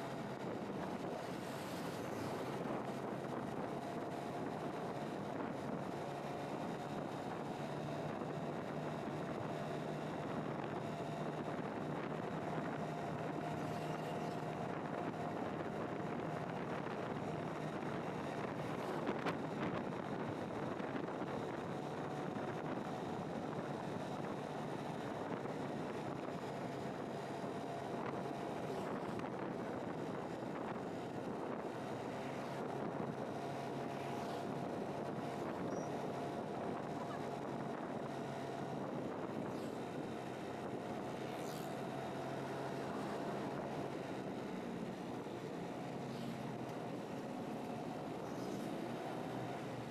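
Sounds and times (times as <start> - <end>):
faint steady whine: 0.0 - 49.9
motorcycle engine cruising: 0.0 - 49.9.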